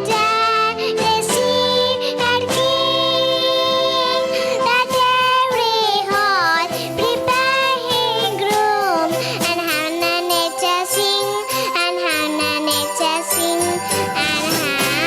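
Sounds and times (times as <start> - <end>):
instrumental accompaniment: 0.0 - 15.0
person singing christmas song: 0.0 - 15.0.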